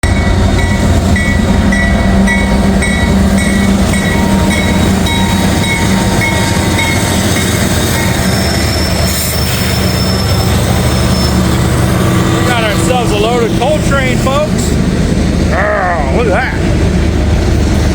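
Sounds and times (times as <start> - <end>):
freight train rumbling on rails: 0.0 - 17.9.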